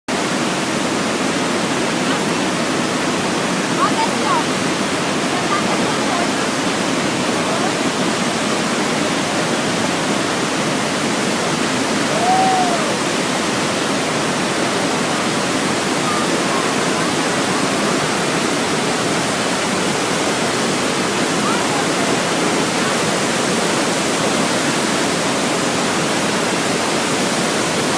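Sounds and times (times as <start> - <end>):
waterfall rushing: 0.1 - 27.9.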